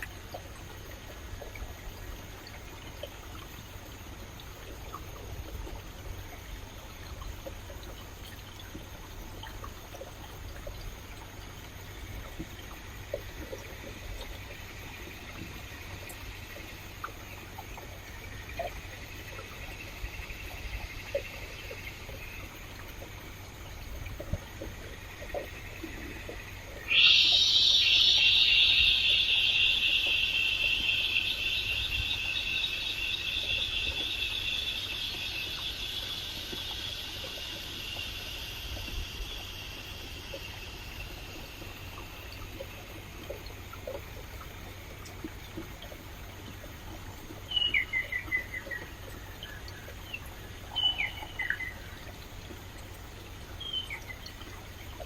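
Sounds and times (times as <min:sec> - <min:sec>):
small ticks: 0:00.0 - 0:55.0
stream water trickling: 0:00.0 - 0:55.0.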